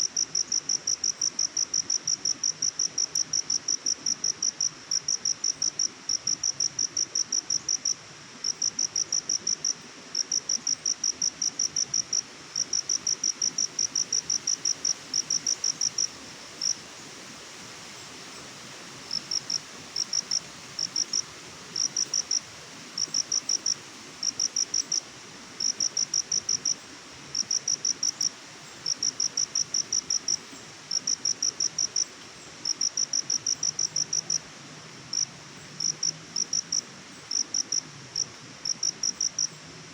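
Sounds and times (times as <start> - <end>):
cricket chirping: 0.0 - 34.5, 35.1 - 39.7
faint steady hiss: 0.0 - 39.9.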